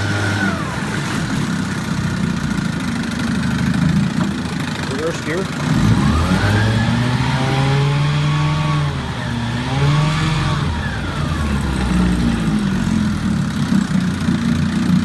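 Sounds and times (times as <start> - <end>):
outboard motor revving: 0.0 - 15.0.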